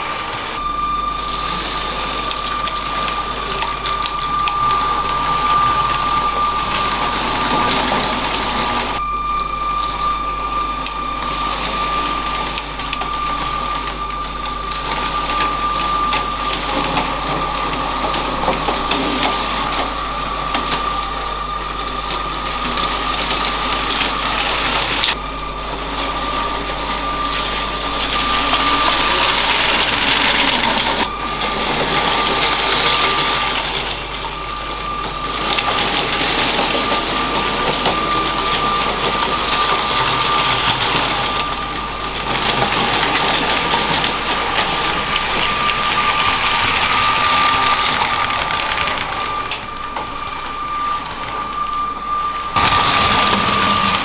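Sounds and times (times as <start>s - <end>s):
wheels rattling on plastic track: 0.0s - 9.0s, 10.6s - 54.0s
electric motor whine: 0.0s - 54.0s.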